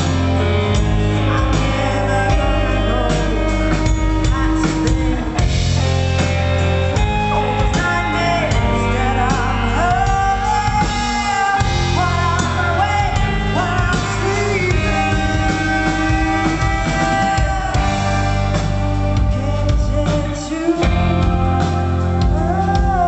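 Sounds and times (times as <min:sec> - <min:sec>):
bass line: 0:00.0 - 0:23.0
guitar: 0:00.0 - 0:23.0
person singing: 0:00.0 - 0:23.0.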